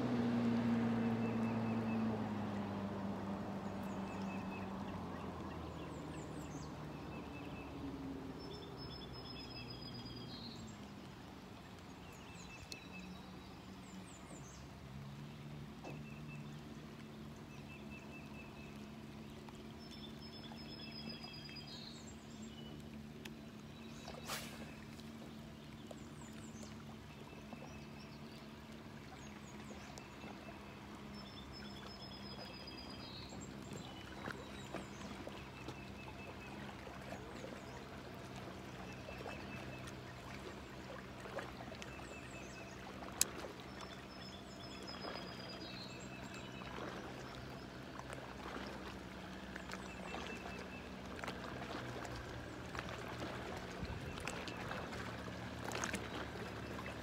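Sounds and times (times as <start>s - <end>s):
distant boat motor hum: 0.0s - 57.0s
water lapping on rocky shore: 0.0s - 57.0s
birds singing: 3.6s - 11.0s, 11.9s - 53.0s.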